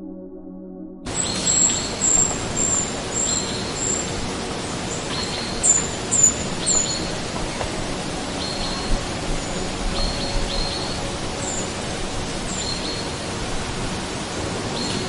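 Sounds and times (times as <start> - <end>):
steady outdoor hiss: 1.1 - 15.0.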